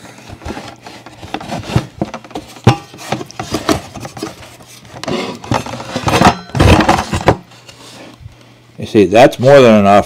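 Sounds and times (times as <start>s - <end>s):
clattering rustle: 0.0s - 8.1s.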